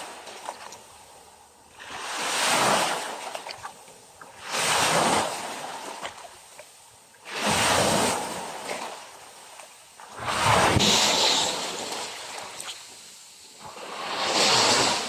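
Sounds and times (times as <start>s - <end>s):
small ocean waves breaking: 0.0s - 15.0s.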